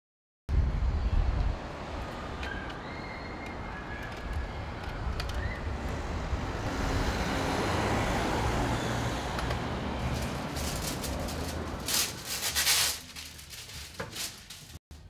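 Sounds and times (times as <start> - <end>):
street traffic rumble: 0.5 - 15.0.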